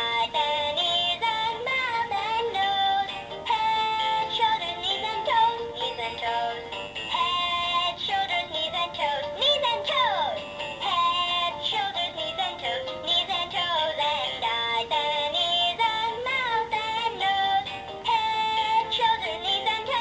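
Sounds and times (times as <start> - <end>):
music backing: 0.0 - 20.0
toy singing in high-pitched voice: 0.0 - 20.0.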